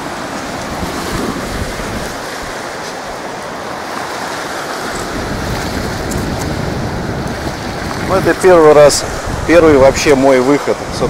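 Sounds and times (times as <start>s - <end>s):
ocean surf on beach: 0.0s - 11.0s
wind buffeting microphone: 0.1s - 3.3s, 4.7s - 11.0s.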